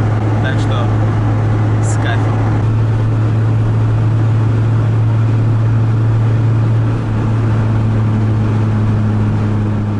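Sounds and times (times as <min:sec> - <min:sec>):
car engine and road noise: 0:00.0 - 0:09.9.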